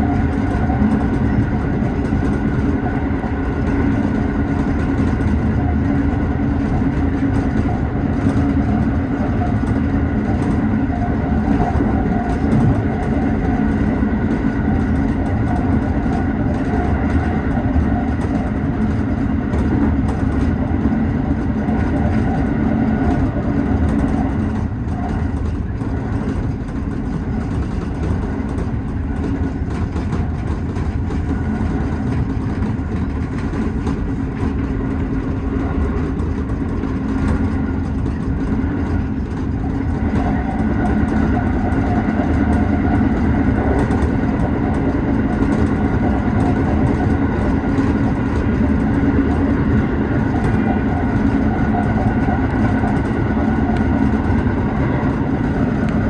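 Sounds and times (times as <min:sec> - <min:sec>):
electric train running: 0:00.0 - 0:56.0.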